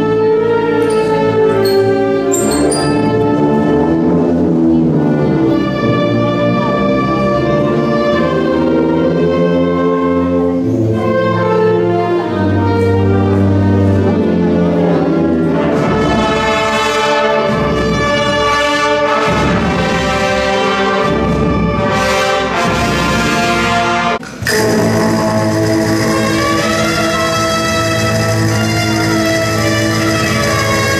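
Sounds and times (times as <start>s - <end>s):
brass ensemble playing: 0.0s - 30.9s.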